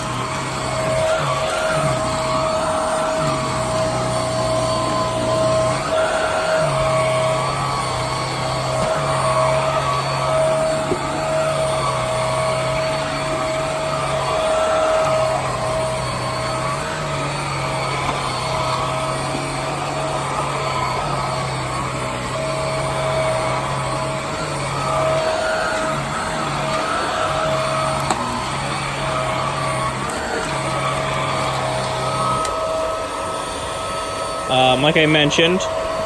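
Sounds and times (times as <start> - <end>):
vacuum cleaner running: 0.0 - 36.0
vacuum cleaner whine: 0.0 - 36.0.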